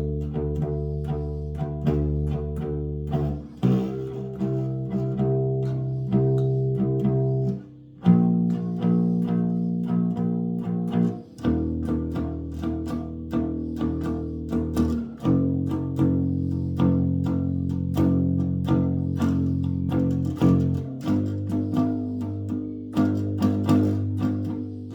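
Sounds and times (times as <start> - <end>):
low bass guitar notes ringing: 0.0 - 24.9
sharp bass guitar plucks: 0.0 - 24.9.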